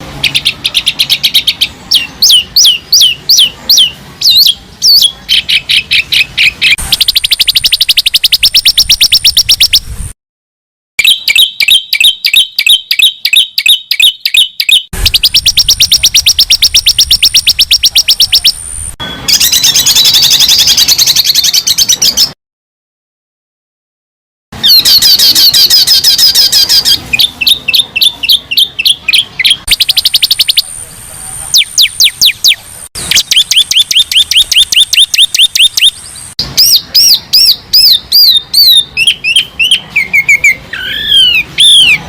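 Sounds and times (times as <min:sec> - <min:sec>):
songbird chirps and trills: 0:00.2 - 0:09.9, 0:11.0 - 0:22.4, 0:24.6 - 0:42.0.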